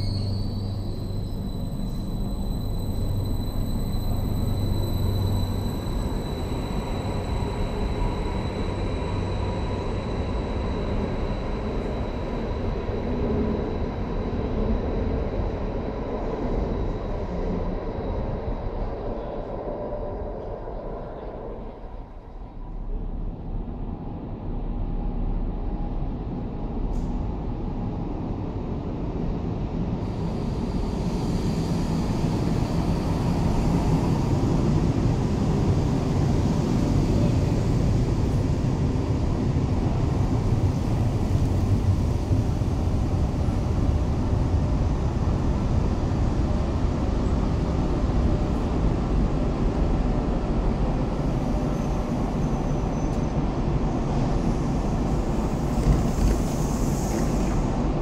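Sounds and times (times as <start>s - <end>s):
electric train low rumble: 0.0s - 58.0s.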